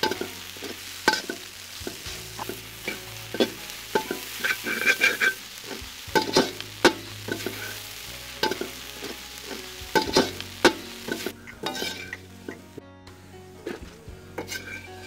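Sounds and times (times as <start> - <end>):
metal spatula scraping a wok: 0.0 - 12.8, 13.6 - 15.0
frying sizzle: 0.0 - 15.0.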